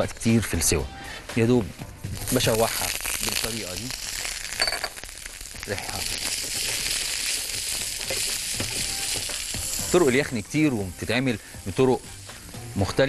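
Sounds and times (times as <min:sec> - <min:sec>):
beef sizzling in a frying pan: 0:02.1 - 0:13.0.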